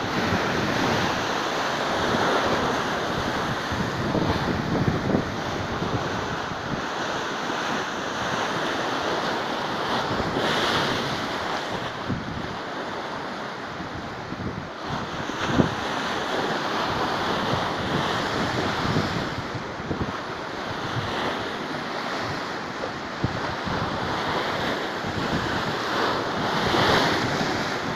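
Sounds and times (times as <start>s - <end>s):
waves breaking against a seawall: 0.0s - 27.9s
wind buffeting microphone: 0.0s - 27.9s.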